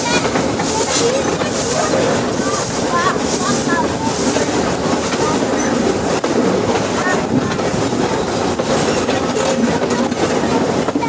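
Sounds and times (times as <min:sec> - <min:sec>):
steam locomotive running: 0:00.0 - 0:11.0.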